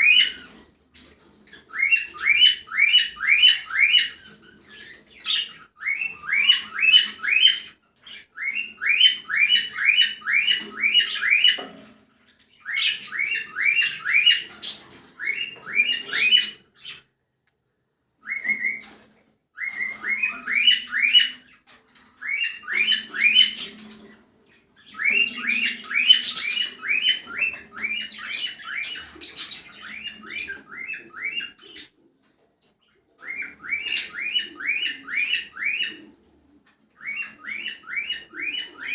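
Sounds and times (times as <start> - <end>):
cockatiel chirping: 0.0 - 11.7, 12.4 - 17.1, 18.2 - 24.2, 24.8 - 32.0, 32.8 - 36.1, 37.0 - 38.9.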